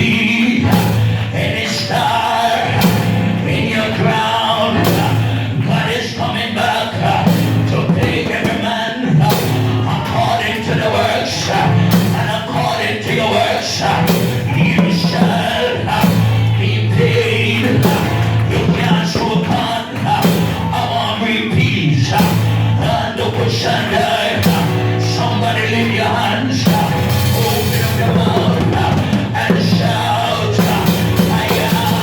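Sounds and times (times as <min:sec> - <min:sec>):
gospel band playing: 0:00.0 - 0:32.0
voices singing: 0:00.0 - 0:32.0.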